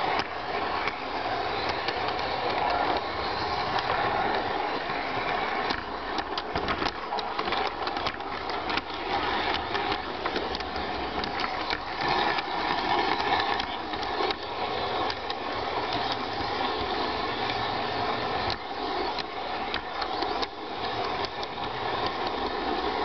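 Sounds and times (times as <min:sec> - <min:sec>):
model train motor whir: 0:00.0 - 0:23.0
wheels clicking on rails: 0:00.0 - 0:23.0.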